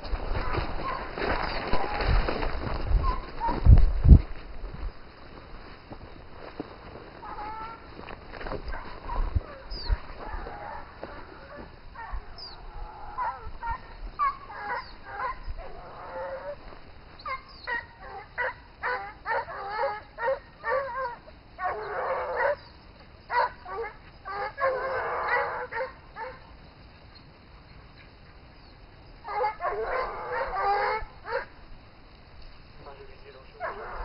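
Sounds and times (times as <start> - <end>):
hunting dogs barking and baying: 0.0 - 34.0.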